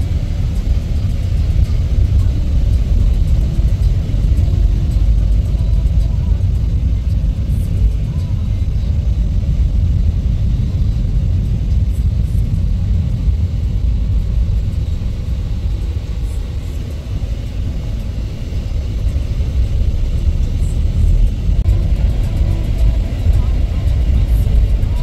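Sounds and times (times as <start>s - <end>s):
vehicle low rumble: 0.0s - 25.0s.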